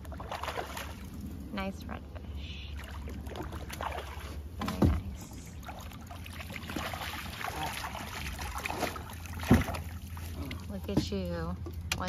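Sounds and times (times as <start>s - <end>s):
water slapping and trickling: 0.0s - 12.0s.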